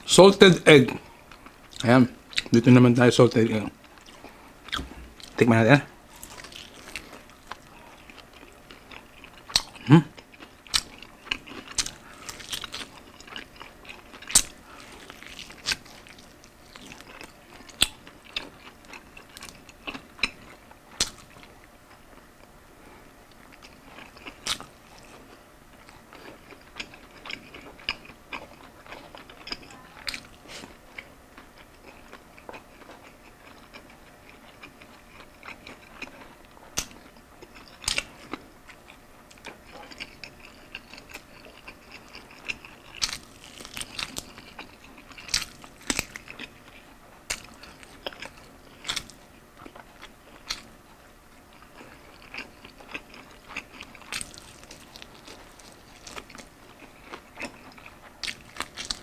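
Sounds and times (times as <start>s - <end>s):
crunching fried chicken: 0.2s - 22.2s, 23.3s - 59.0s
soft chewing: 0.8s - 2.7s, 3.3s - 59.0s.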